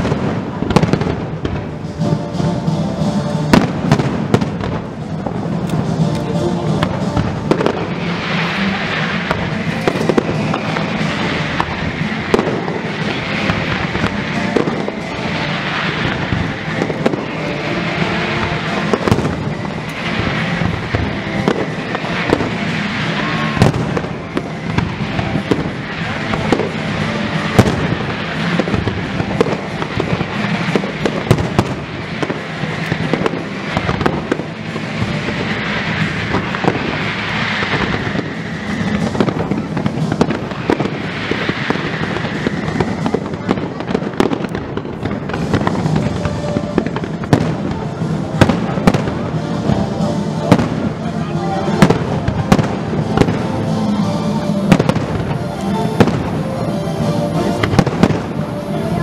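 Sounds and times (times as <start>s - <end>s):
music playing: 0.0s - 59.0s.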